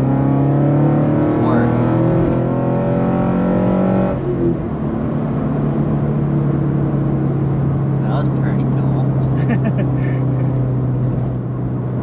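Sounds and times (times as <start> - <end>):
car engine drone from inside: 0.0 - 12.0.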